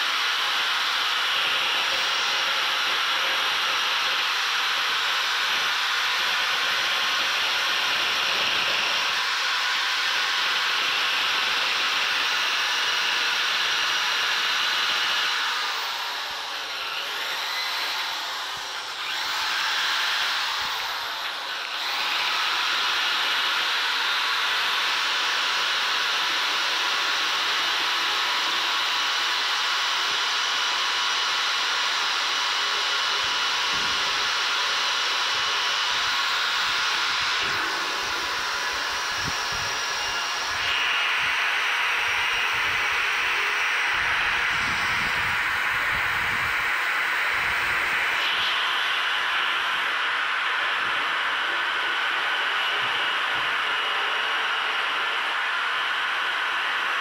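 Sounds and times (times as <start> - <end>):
electric drill grinding wood: 0.0 - 57.0.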